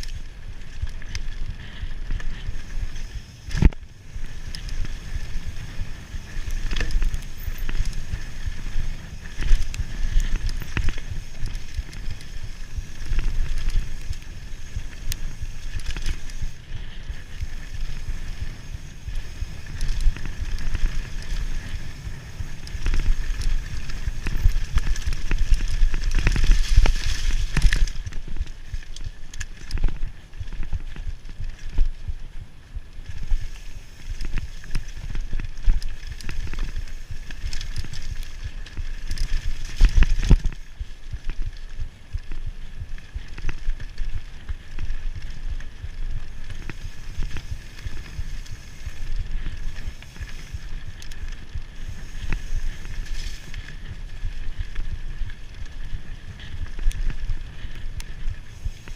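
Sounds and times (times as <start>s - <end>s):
bike rattling over bumps: 0.0s - 58.9s
bike tyres rumbling on dirt: 0.0s - 58.9s.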